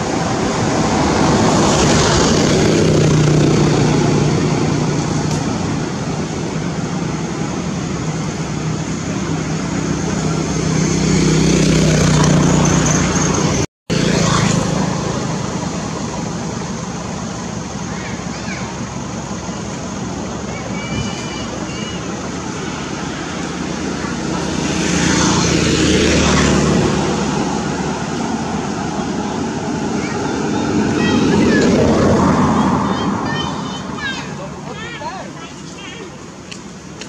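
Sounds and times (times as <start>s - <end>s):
vehicle engine humming: 0.0s - 37.0s
vehicles passing: 0.0s - 37.0s.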